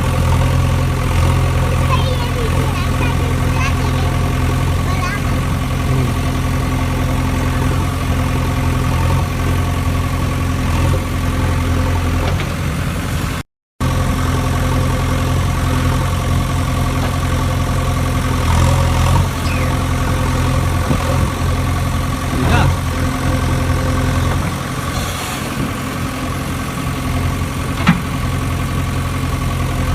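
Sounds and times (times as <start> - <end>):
engine idling: 0.0 - 29.9.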